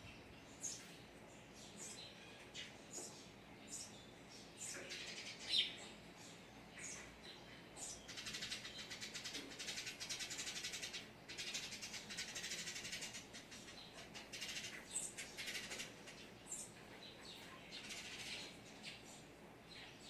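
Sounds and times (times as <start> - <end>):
birds rattling trills: 0.0 - 20.0.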